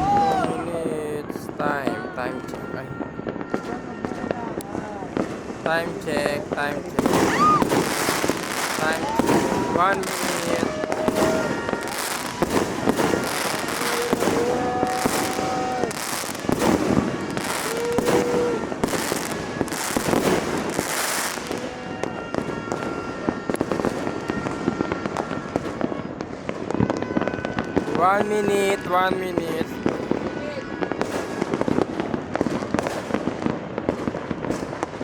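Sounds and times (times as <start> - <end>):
firecrackers popping and crackling: 0.0 - 35.0.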